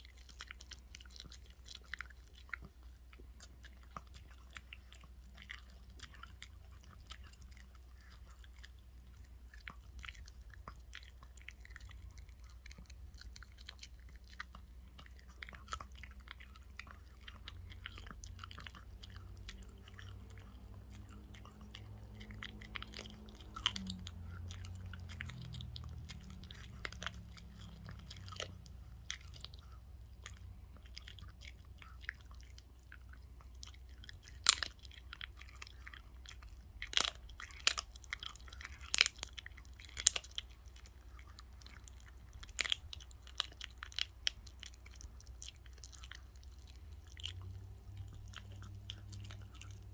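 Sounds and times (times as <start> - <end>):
dog chewing: 0.0 - 49.9.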